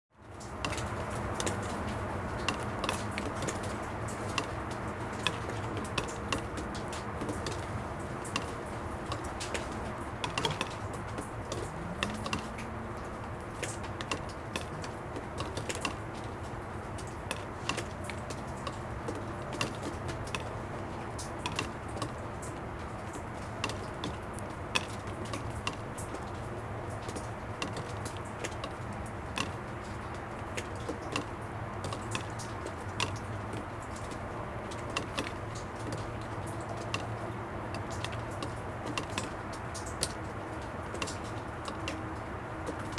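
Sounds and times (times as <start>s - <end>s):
distant traffic rumble: 0.2s - 42.9s
water drops ticking on plastic: 0.2s - 42.9s.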